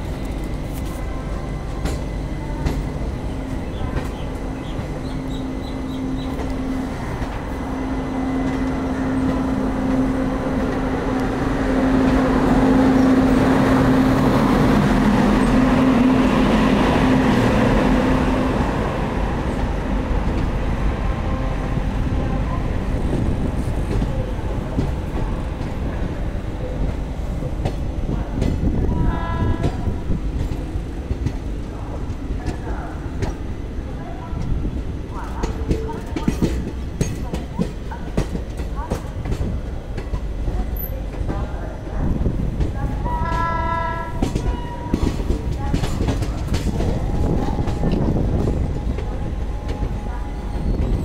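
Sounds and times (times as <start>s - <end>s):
locomotive hum: 0.0s - 51.0s
train wheels rumbling and clacking: 0.0s - 51.0s.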